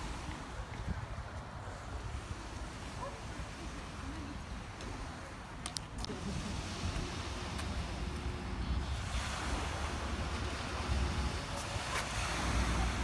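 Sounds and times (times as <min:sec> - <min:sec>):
sea surf washing ashore: 0:00.0 - 0:13.0.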